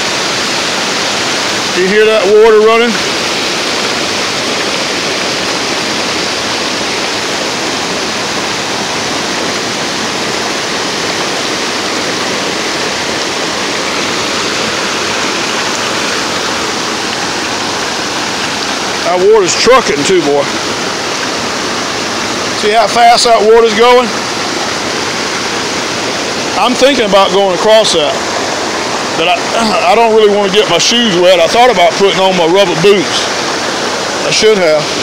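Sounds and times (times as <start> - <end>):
river rapids rushing: 0.0 - 35.0.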